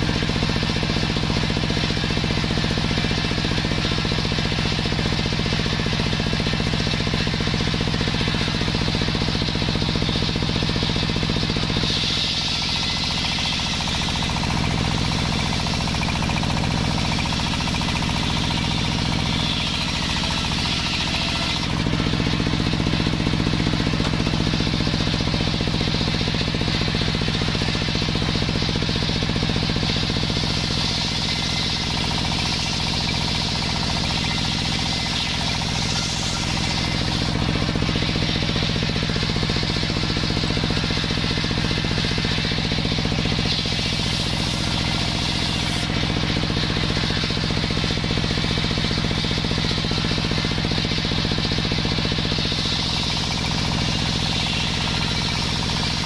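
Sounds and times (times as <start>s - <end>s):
circular saw cutting a log: 0.0s - 56.0s.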